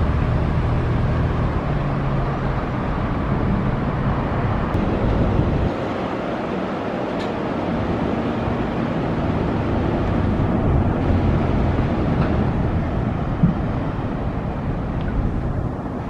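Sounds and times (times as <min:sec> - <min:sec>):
road traffic rumbling: 0:00.0 - 0:16.0.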